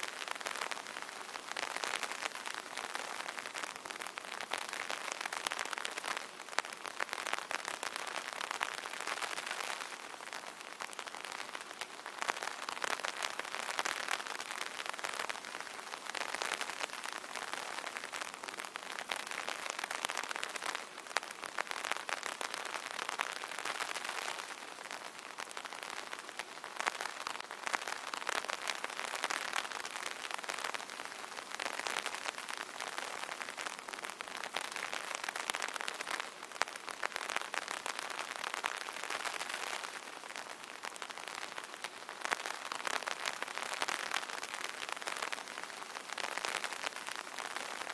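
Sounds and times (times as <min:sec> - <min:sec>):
rain pattering on umbrella: 0:00.0 - 0:47.9.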